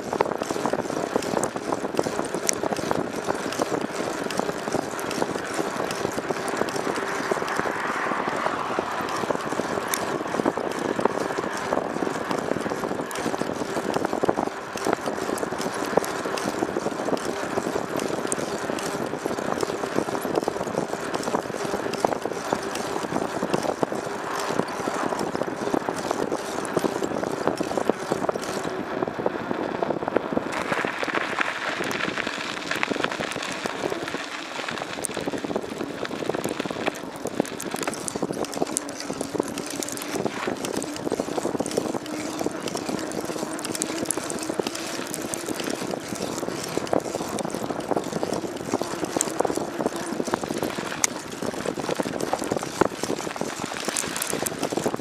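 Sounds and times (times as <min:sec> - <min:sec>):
fine rattling and ticking: 0:00.0 - 0:28.8, 0:30.5 - 0:55.0
vehicle running noise: 0:00.0 - 0:55.0.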